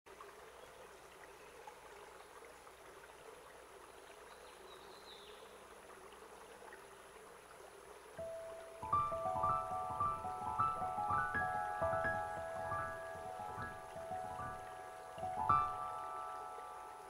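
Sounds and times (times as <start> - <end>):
faint steady hiss: 0.1 - 17.0.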